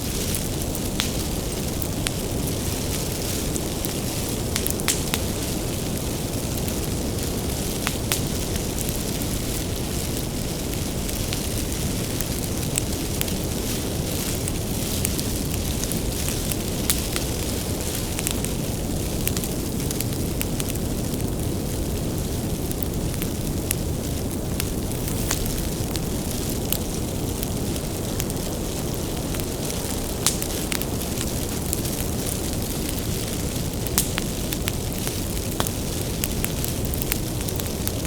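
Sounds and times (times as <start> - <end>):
firewood crackling and popping: 0.0 - 38.0
low roar of flames: 0.0 - 38.0.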